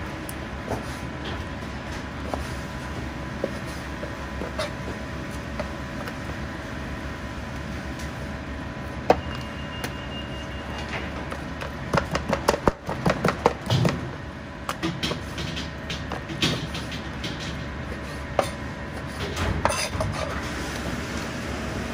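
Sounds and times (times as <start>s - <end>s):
steady background hum: 0.0s - 21.9s.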